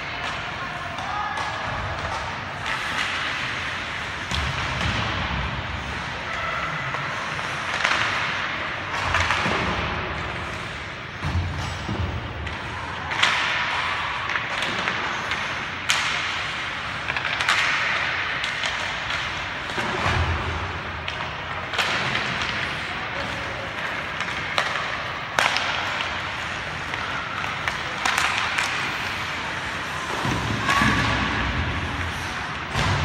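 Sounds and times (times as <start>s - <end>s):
hockey sticks and puck clacking: 0.0s - 33.0s
puck cracking on stick or boards: 0.0s - 33.0s
skates scraping on ice: 1.8s - 32.9s.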